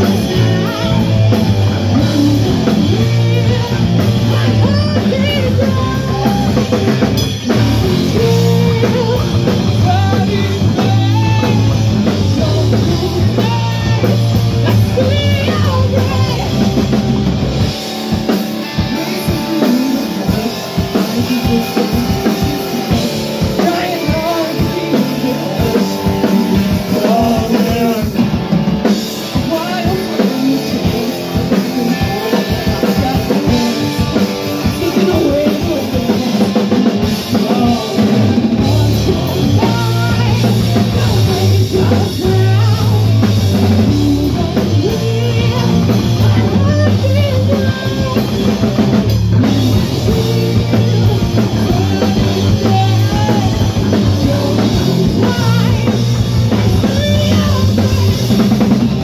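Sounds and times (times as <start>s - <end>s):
bass guitar: 0.0s - 59.0s
drum kit: 0.0s - 59.0s
electric guitar: 0.0s - 59.0s
person singing: 0.0s - 59.0s.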